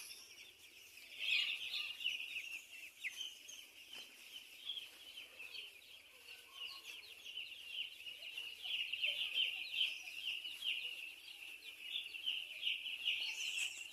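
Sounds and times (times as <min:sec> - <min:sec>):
chickens peeping: 0:00.0 - 0:13.9.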